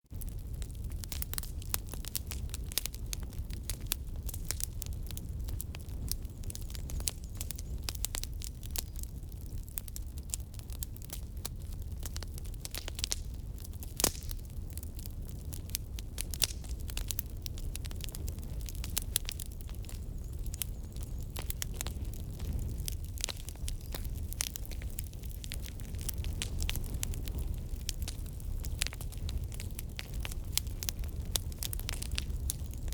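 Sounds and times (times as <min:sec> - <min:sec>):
firewood crackling and popping: 0:00.0 - 0:32.9
low fire rumble: 0:00.0 - 0:32.9.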